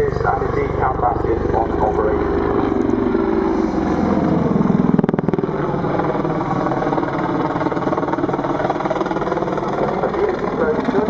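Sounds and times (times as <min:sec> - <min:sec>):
helicopter rotor beat: 0:00.0 - 0:11.0
turbine noise: 0:00.0 - 0:11.0.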